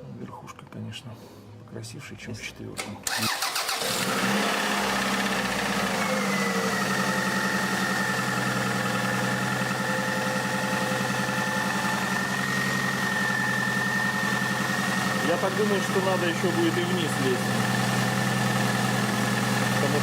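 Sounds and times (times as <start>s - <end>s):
car engine idling: 3.2s - 20.0s.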